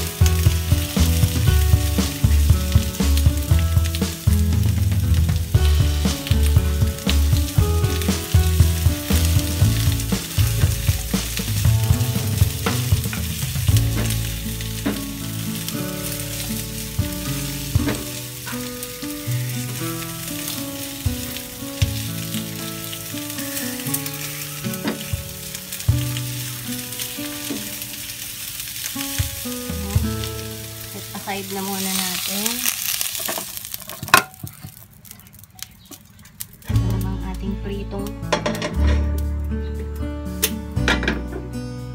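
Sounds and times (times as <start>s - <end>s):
sustained musical notes: 0.0s - 32.1s, 36.7s - 41.9s
onion rings sizzling in oil: 0.0s - 37.9s.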